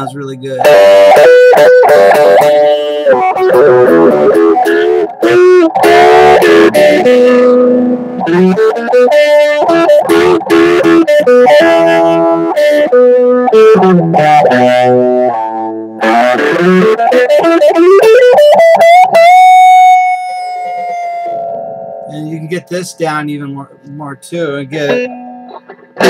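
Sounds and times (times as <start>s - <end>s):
electric guitar playing: 0.0s - 26.0s.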